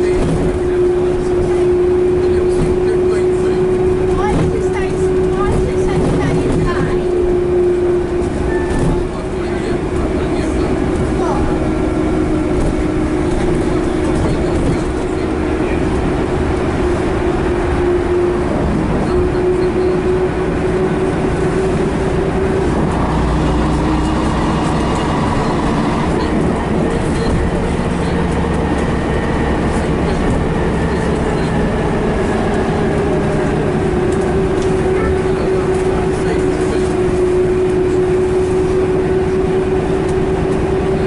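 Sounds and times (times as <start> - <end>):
bus diesel engine rumbling: 0.0 - 41.0.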